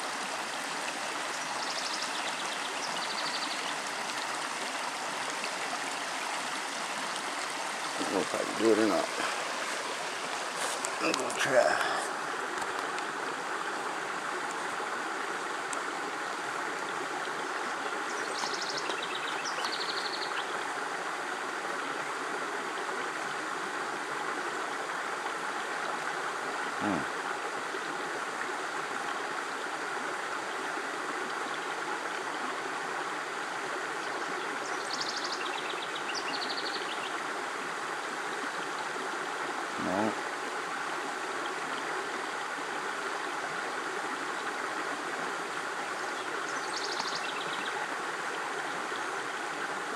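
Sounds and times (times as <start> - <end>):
flowing water: 0.0 - 49.9.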